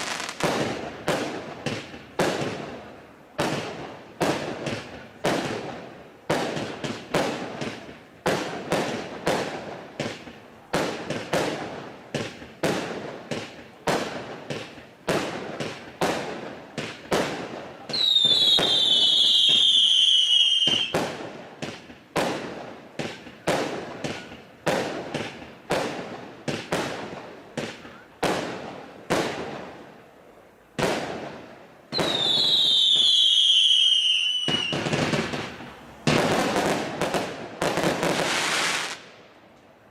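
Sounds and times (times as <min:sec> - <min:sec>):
firework bursts: 0:00.0 - 0:39.4.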